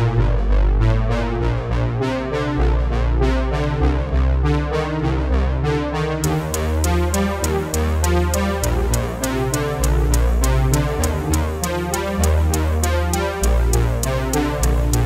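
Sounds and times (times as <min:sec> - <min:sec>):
electronic music with deep bass: 0:00.0 - 0:15.0.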